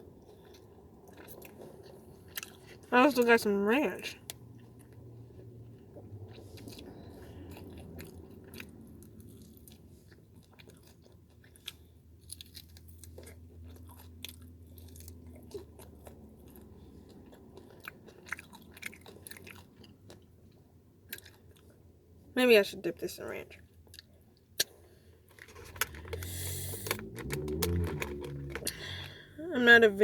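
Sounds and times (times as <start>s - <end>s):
person chewing with crunches: 0.0s - 22.3s, 23.7s - 29.3s.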